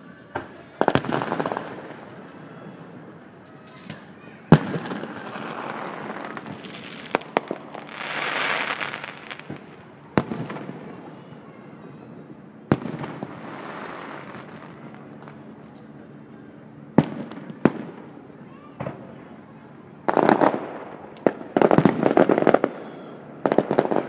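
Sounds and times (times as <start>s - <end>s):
fireworks bursting bangs: 0.3s - 16.0s, 16.9s - 24.0s.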